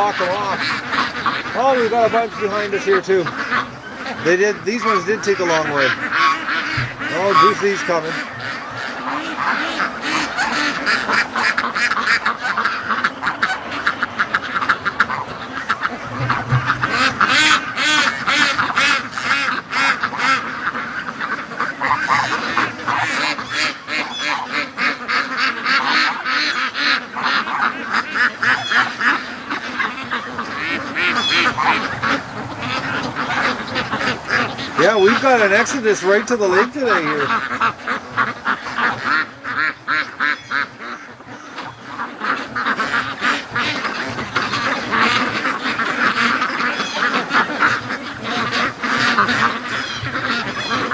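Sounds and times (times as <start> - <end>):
ducks quacking: 0.0 - 50.9.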